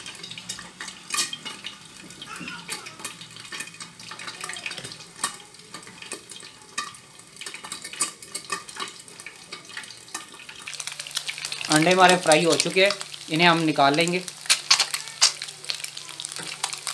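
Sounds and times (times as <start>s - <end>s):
eggs sizzling in oil: 0.0s - 16.9s
oil popping and spattering: 0.3s - 16.9s.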